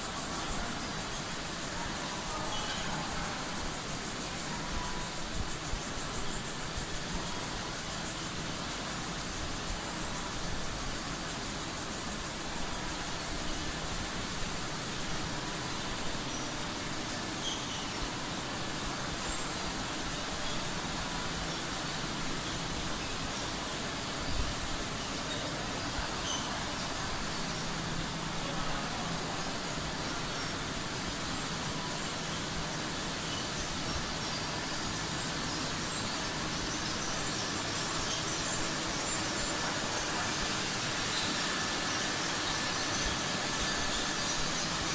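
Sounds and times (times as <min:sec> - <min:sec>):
conveyor belts and rollers running: 0:00.0 - 0:44.9
production line machinery noise: 0:00.0 - 0:44.9
thin high whine: 0:00.0 - 0:44.9.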